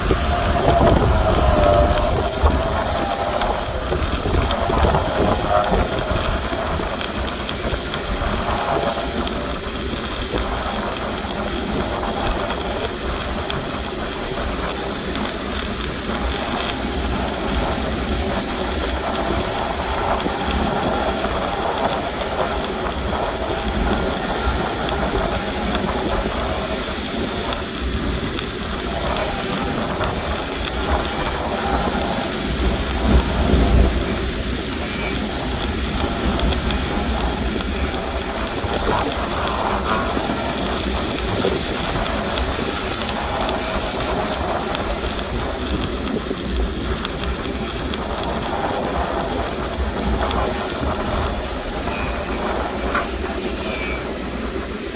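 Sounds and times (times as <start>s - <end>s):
welding arc crackling: 0.0s - 54.6s.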